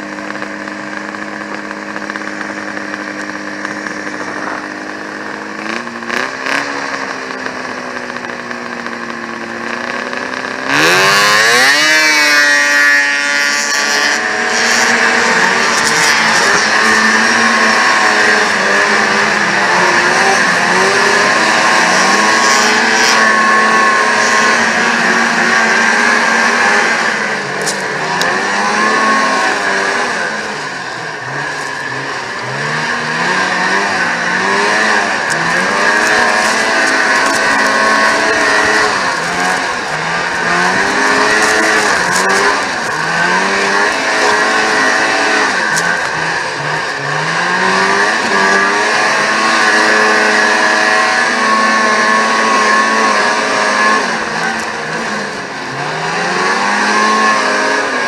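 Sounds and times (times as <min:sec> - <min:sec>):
steady rushing noise: 0:00.0 - 0:10.6, 0:12.8 - 0:57.9
two-stroke snowmobile engine racing: 0:00.0 - 0:58.0.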